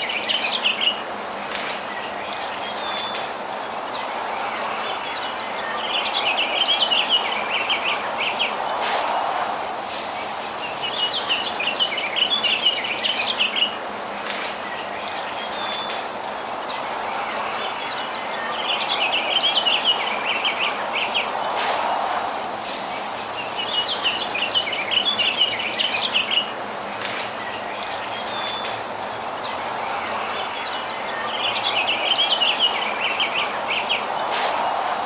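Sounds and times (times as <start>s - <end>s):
outdoor background hiss: 0.0s - 35.0s.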